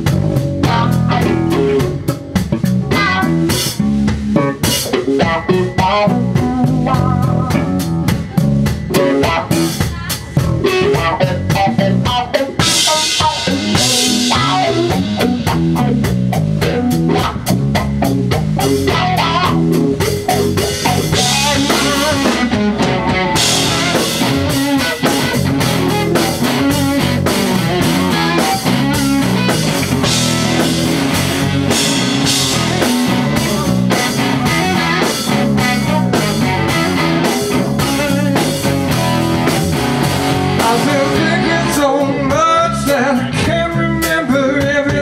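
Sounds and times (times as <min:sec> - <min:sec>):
drum kit beat: 0:00.0 - 0:45.0
electric guitar: 0:00.0 - 0:45.0.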